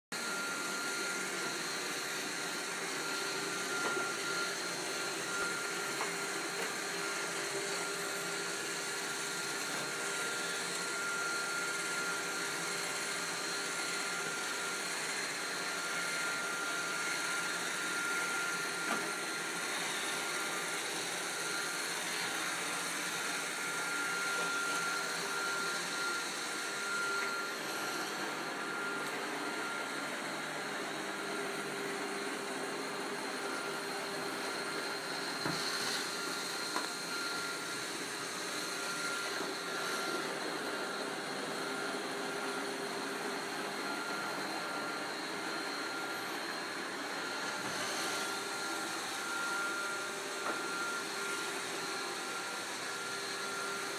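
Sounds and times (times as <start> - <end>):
robot vacuum whirring: 0.2 - 53.9.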